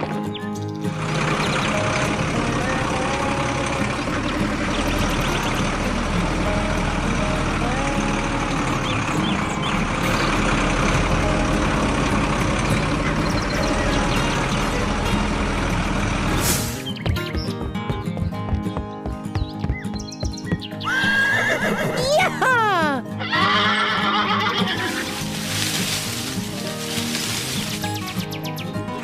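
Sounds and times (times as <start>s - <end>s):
vehicle engine rumble: 0.0s - 21.0s, 24.6s - 29.0s.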